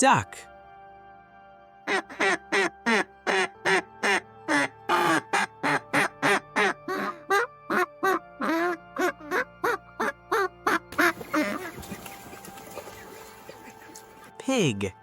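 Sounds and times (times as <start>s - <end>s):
light background music: 0.0s - 15.0s
duck quacking: 1.9s - 14.2s.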